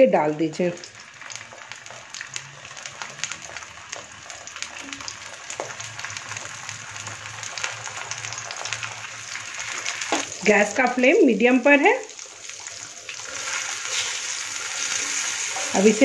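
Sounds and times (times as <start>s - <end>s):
salami sizzling in oil: 0.0s - 16.0s.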